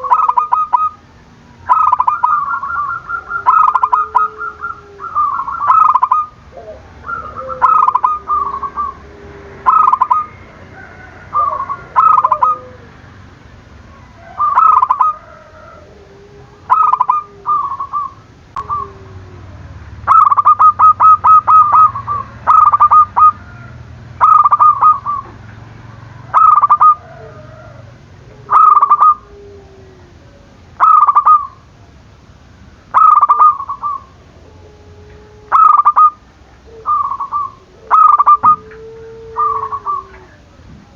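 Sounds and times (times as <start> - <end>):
dove cooing in stuttering phrases: 0.0 - 32.0, 32.9 - 40.9
low gliding coos: 0.0 - 40.9.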